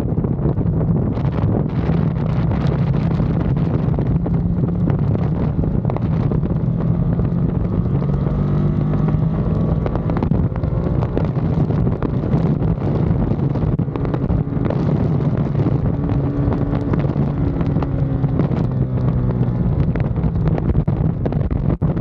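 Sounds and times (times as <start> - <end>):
motorcycle engine running hard: 0.0 - 22.0
wind rushing over microphone: 0.0 - 22.0.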